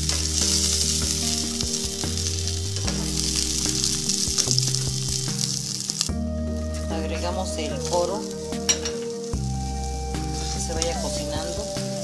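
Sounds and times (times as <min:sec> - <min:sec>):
garlic sizzling in butter: 0:00.0 - 0:12.0.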